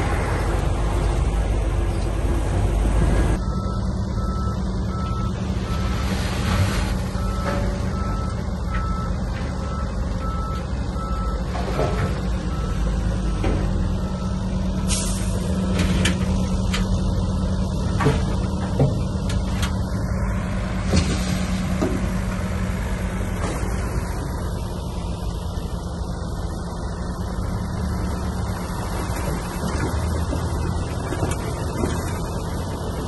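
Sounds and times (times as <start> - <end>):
diesel machinery running: 0.0 - 33.0.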